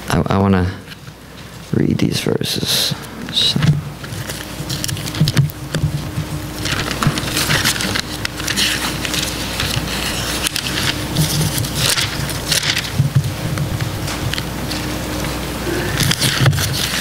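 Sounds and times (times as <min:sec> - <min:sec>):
faint steady hum: 0:00.0 - 0:17.0
pages rustling and flicking: 0:03.3 - 0:17.0.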